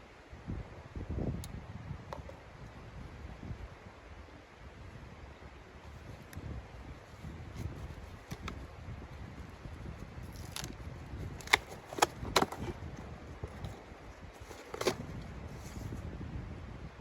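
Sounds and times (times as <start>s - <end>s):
low wind rumble: 0.1s - 17.0s.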